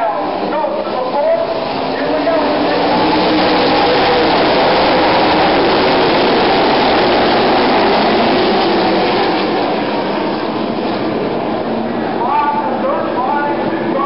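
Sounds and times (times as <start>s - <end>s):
race cars roaring past: 0.0s - 14.0s.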